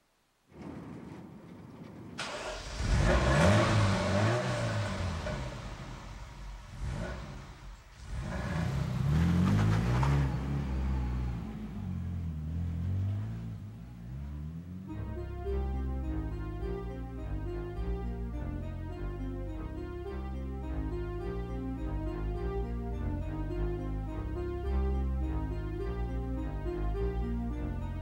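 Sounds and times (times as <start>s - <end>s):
sports car engine revving: 2.2s - 28.0s.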